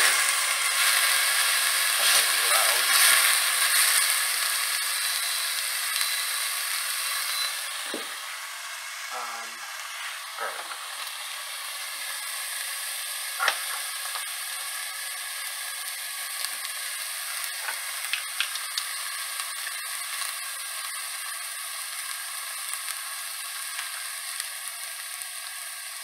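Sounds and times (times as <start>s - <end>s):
onion and garlic sizzling in pan: 0.0s - 26.0s.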